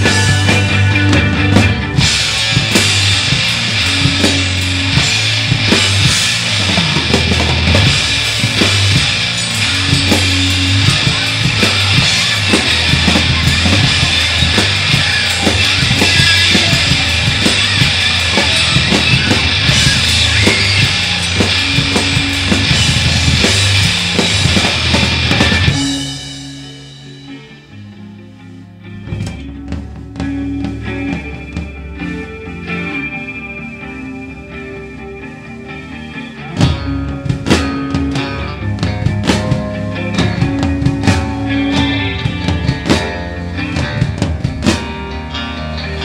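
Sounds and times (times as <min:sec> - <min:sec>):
rapid drumming: 0:00.0 - 0:27.7, 0:29.1 - 0:32.6, 0:35.9 - 0:46.0
loud rock music: 0:00.0 - 0:46.0.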